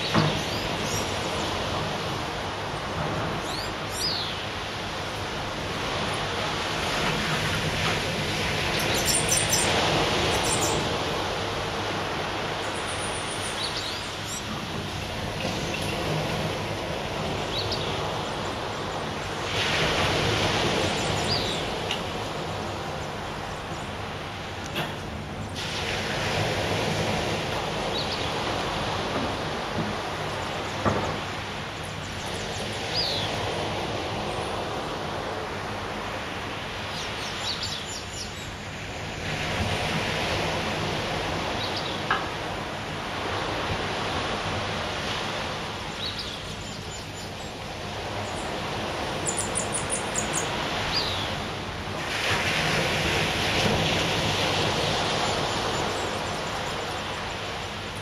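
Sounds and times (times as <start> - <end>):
surf washing onto beach: 0.0 - 58.0.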